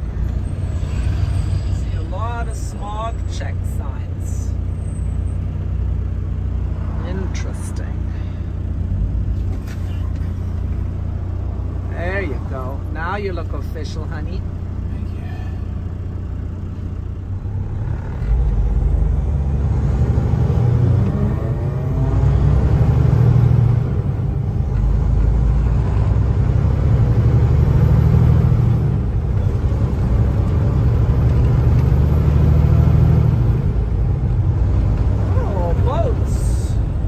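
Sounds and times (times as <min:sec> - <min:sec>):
truck diesel engine accelerating: 0:00.0 - 0:37.0.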